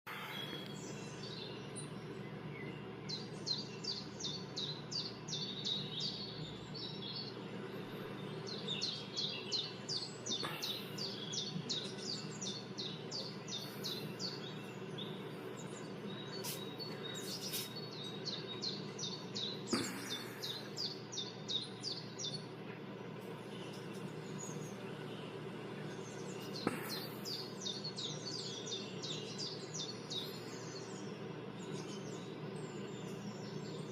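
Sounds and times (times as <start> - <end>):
recorded birdsong chirps: 0.1 - 33.9
steady low hum: 0.1 - 33.9.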